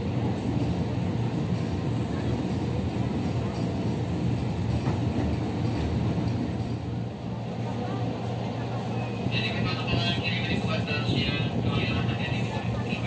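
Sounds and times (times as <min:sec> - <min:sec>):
train car rumbling: 0:00.0 - 0:13.0.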